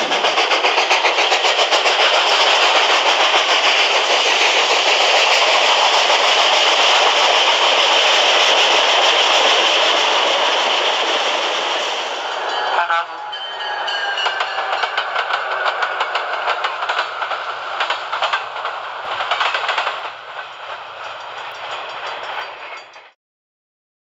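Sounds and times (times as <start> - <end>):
model train wheels rattling: 0.0 - 12.5, 14.1 - 23.1.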